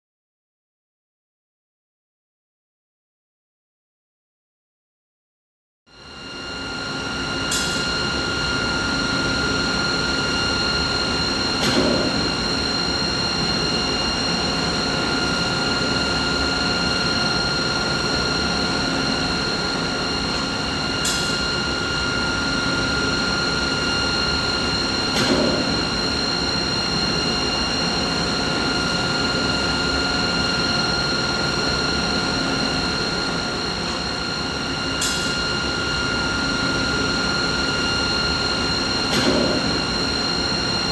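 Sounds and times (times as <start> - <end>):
machinery hum and hiss: 6.0 - 40.9.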